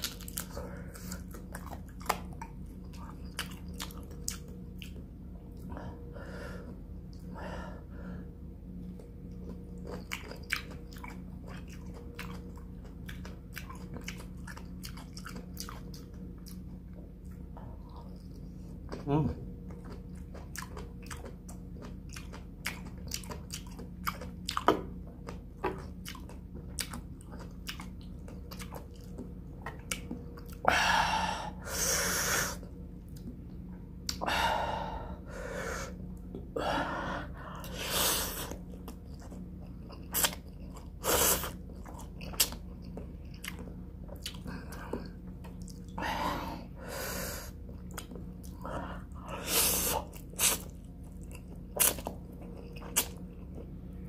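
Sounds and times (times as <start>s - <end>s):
person chewing food: 0.0s - 7.4s, 8.3s - 54.0s.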